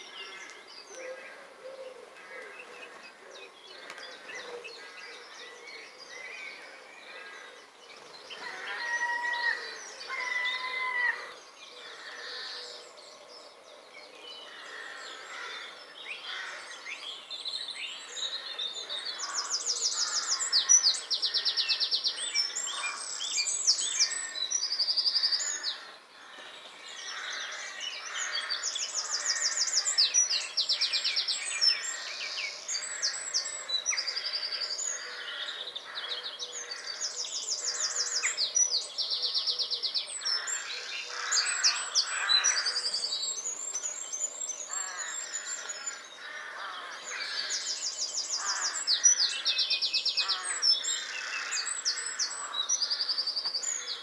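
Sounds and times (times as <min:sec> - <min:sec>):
songbirds trilling: 0:00.0 - 0:54.0.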